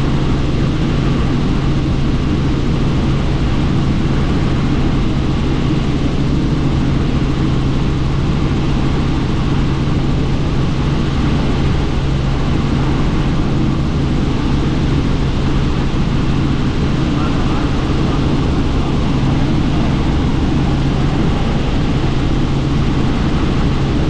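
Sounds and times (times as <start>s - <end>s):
helicopter rotor and engine drone: 0.0s - 24.0s
wind noise: 0.0s - 24.0s.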